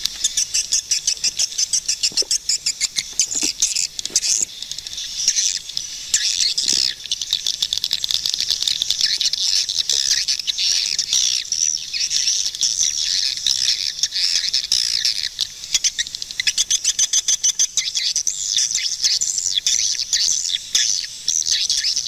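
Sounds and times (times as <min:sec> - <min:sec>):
birds chattering high chirps: 0:00.0 - 0:22.0.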